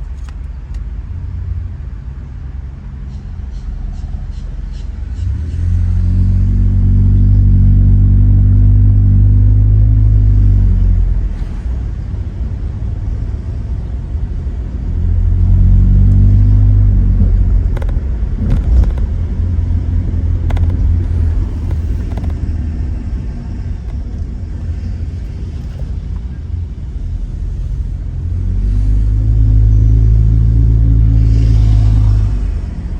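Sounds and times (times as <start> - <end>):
car exhaust drone: 0.0 - 32.9.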